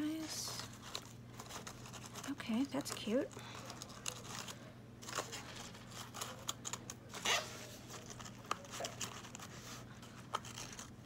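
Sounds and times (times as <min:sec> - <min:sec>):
paper rustling and scraping: 0:00.0 - 0:11.0.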